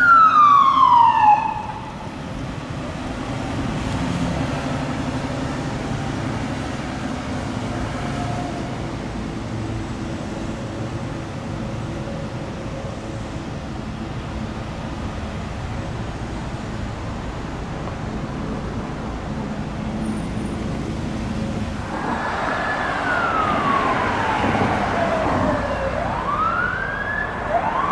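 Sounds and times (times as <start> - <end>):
road traffic engine hum: 0.0 - 27.9.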